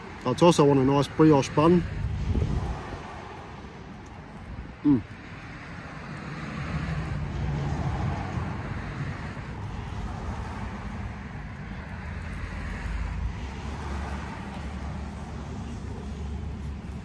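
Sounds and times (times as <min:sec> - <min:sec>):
road noise: 0:00.0 - 0:17.0
traffic engine rumble: 0:00.0 - 0:17.0.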